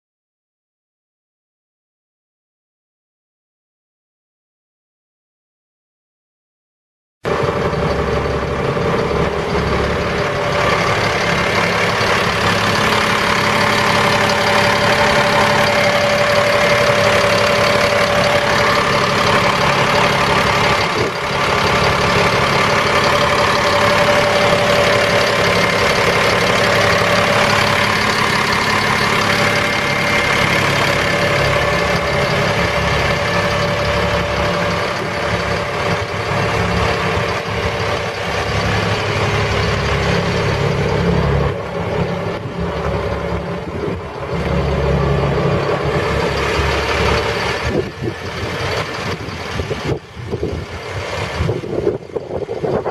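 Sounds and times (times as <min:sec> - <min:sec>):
diesel truck engine idling: 0:07.3 - 0:52.9.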